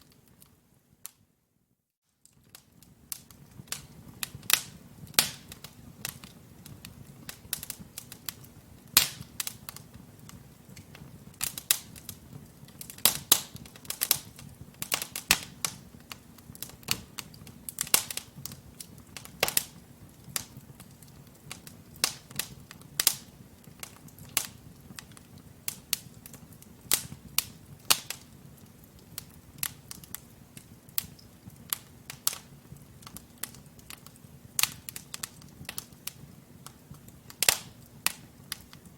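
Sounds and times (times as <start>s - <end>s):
wood fire crackling and popping: 0.0s - 1.3s, 2.2s - 38.9s
low rumble of flames: 2.4s - 38.9s.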